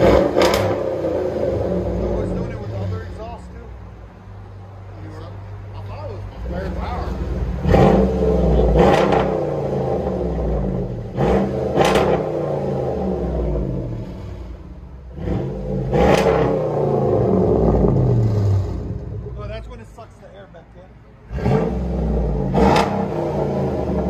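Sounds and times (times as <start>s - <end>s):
vee eight engine revving: 0.0s - 3.7s, 6.2s - 19.8s, 21.2s - 24.0s.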